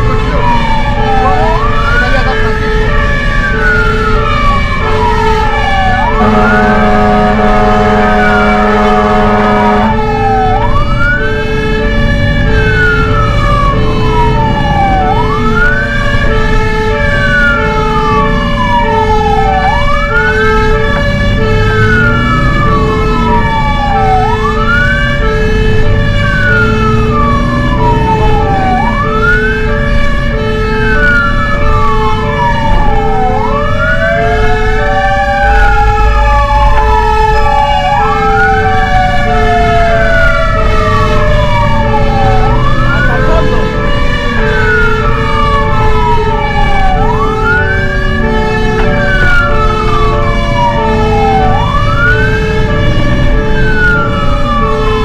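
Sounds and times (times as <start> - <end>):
fire engine siren wailing: 0.0 - 55.0
lower siren rising and falling: 0.0 - 55.0
truck engine rumble: 0.0 - 55.0.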